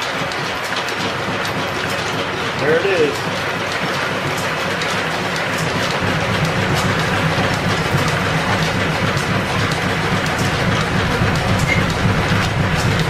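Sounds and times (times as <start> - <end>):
lathe running with mechanical clatter: 0.0 - 13.0.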